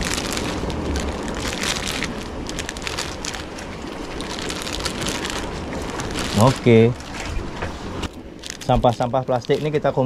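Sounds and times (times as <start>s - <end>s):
plastic packet rustling: 0.0s - 10.0s
sea noise: 0.0s - 10.0s
wind: 0.0s - 10.0s.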